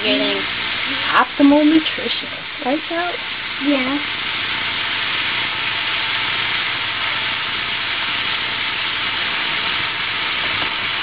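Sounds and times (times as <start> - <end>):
vegetables sizzling in a skillet: 0.0 - 11.0.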